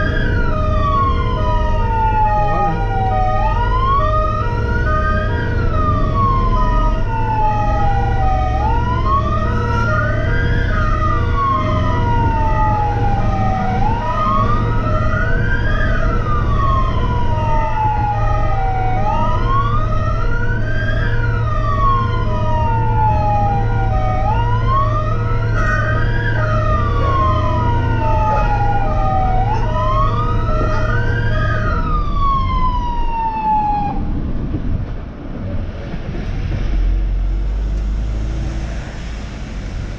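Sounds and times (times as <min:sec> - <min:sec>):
wailing siren: 0:00.0 - 0:34.9
engine low hum: 0:00.0 - 0:39.9.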